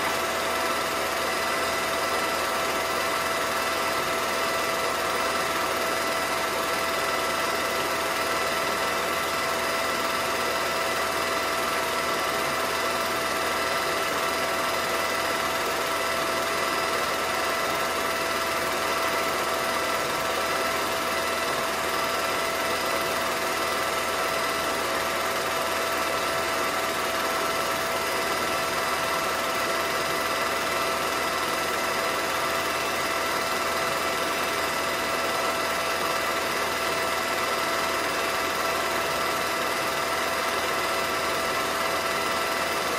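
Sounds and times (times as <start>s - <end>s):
film projector whirring: 0.0s - 42.9s.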